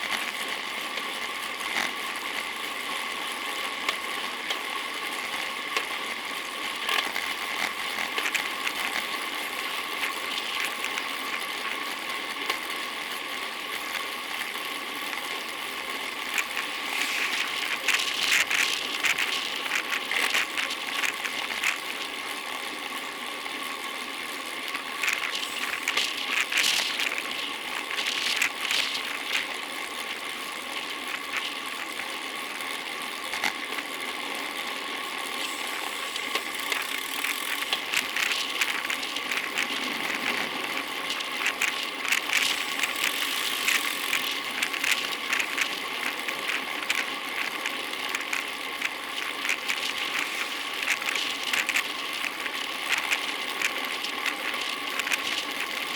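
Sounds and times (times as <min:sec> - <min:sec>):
bicycle clicking and rattling: 0:00.0 - 0:55.9
bicycle tyres on pavement: 0:00.0 - 0:55.9.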